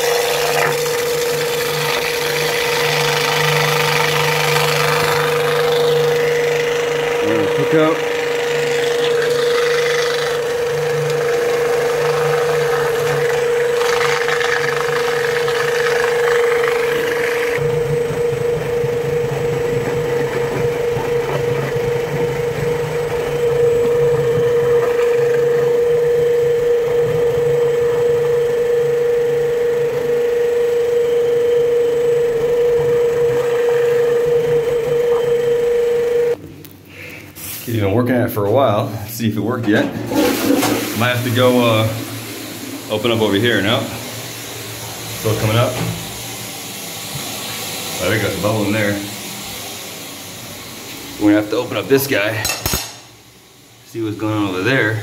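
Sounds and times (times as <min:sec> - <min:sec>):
drain cleaning machine humming: 0:00.0 - 0:37.2, 0:38.6 - 0:55.0.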